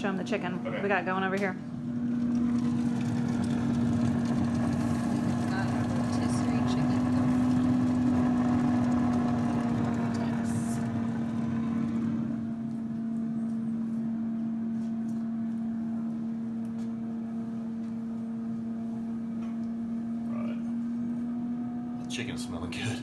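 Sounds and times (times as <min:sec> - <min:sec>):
air fryer fan and motor hum: 0:00.0 - 0:23.0.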